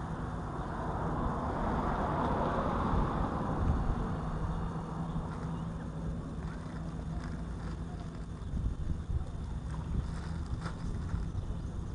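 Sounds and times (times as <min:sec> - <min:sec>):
faint low hum: 0:00.0 - 0:11.9
wind rushing over microphone: 0:00.7 - 0:11.9.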